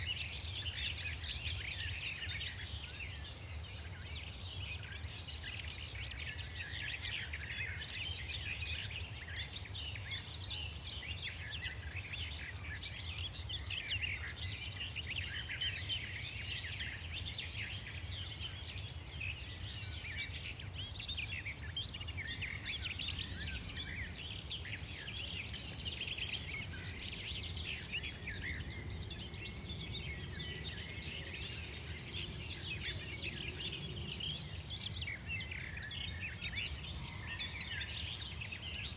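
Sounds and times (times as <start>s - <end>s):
small birds chirping chorus: 0.0s - 38.9s.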